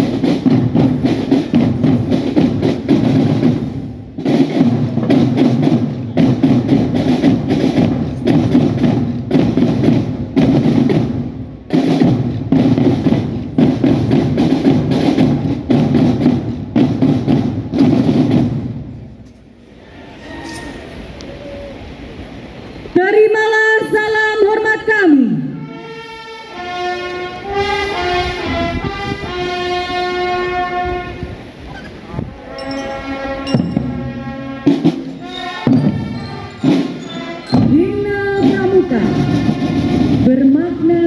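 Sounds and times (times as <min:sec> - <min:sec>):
marching drums playing: 0:00.0 - 0:19.7, 0:25.6 - 0:41.0.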